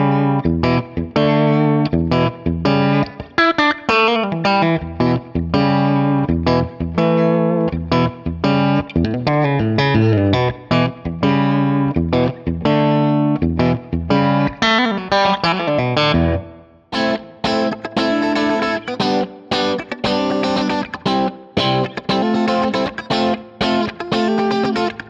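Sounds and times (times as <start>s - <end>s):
clean electric guitar playing: 0.0s - 25.0s.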